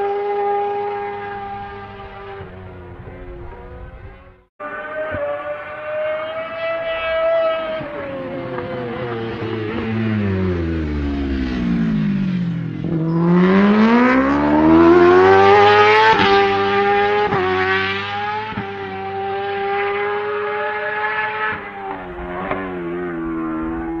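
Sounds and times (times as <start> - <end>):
racing motorcycle engine revving: 0.0 - 24.0.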